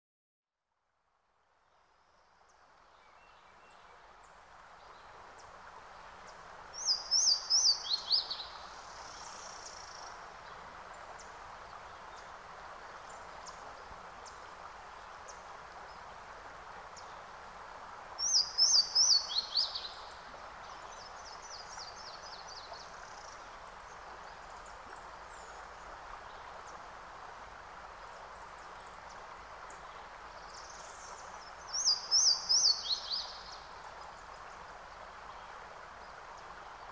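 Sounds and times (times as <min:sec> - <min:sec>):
soft steady hiss: 0:00.5 - 0:36.9.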